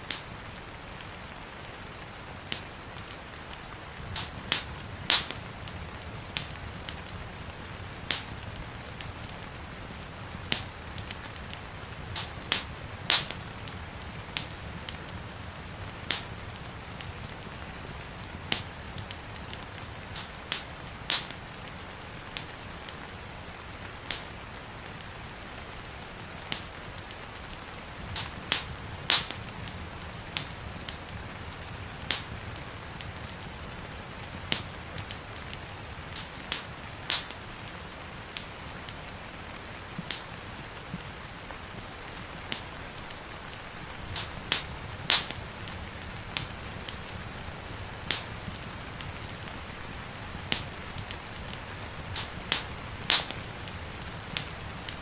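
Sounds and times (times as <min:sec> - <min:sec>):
gentle rain hiss: 0:00.0 - 0:55.0
wood fire crackling and popping: 0:00.0 - 0:55.0.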